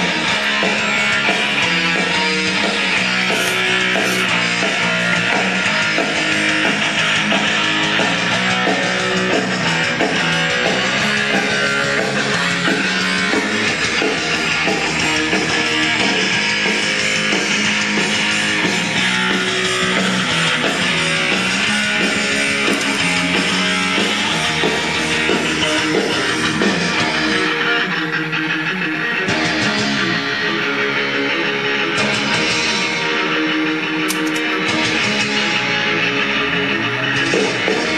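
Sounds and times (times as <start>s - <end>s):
guitar music: 0.0s - 37.9s.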